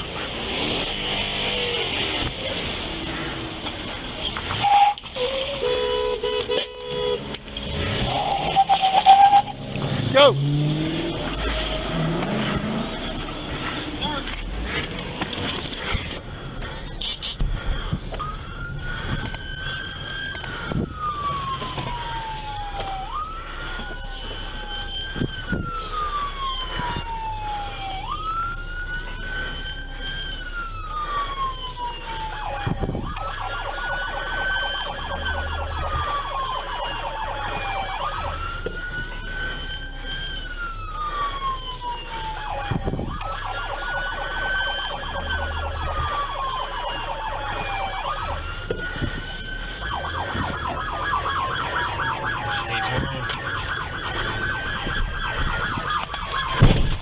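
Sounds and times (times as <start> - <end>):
police siren wailing: 0.0 - 57.0.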